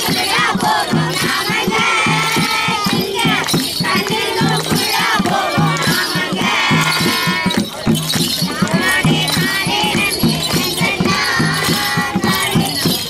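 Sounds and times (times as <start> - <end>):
fast drumbeat: 0.0 - 13.0.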